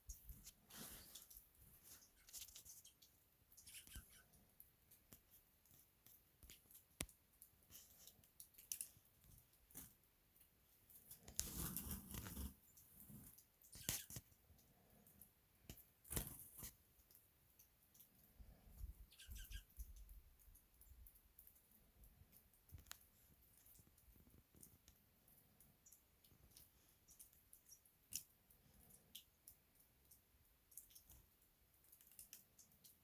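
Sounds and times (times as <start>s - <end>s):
faint clicks and rustles: 0.0s - 33.0s
small birds chipping: 0.0s - 33.0s.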